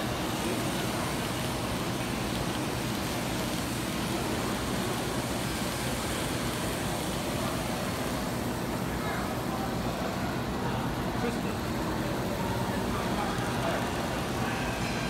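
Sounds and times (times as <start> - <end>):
hall background noise: 0.0 - 15.0
model train rolling on track: 0.0 - 15.0.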